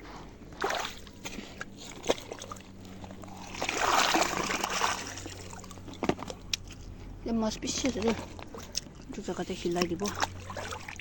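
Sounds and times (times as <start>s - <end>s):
floodwater splashing and trickling: 0.5s - 11.0s.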